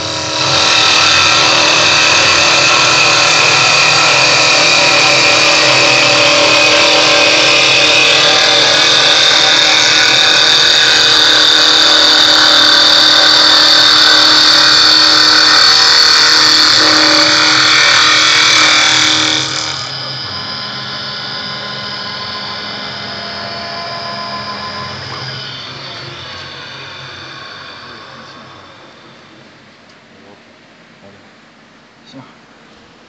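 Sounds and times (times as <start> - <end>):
wood lathe cutting: 0.0 - 29.8.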